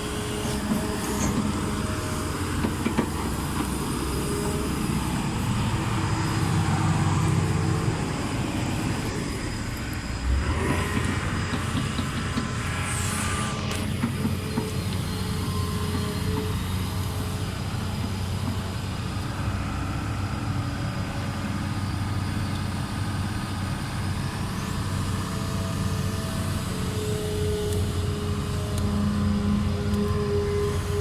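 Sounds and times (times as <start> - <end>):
diesel engines humming: 0.0 - 31.0.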